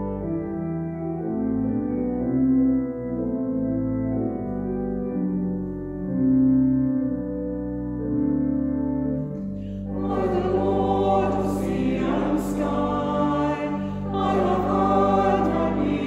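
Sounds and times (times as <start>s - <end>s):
slow keyboard chords: 0.0s - 16.0s.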